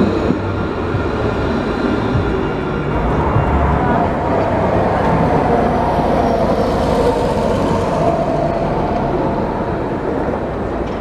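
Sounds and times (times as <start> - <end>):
bus driving past: 0.0 - 11.0.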